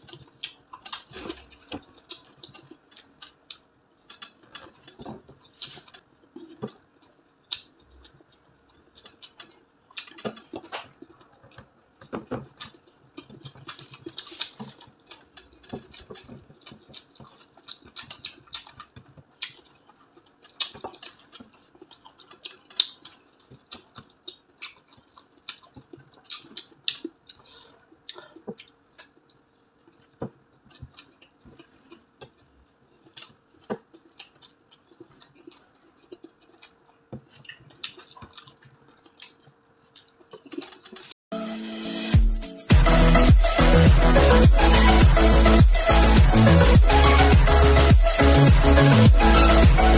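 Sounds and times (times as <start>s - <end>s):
crunching and chewing: 0.0s - 41.2s.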